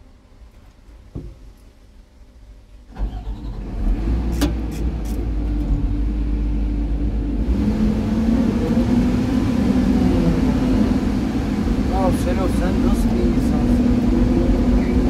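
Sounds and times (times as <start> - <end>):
excavator diesel engine running: 2.9 - 15.0.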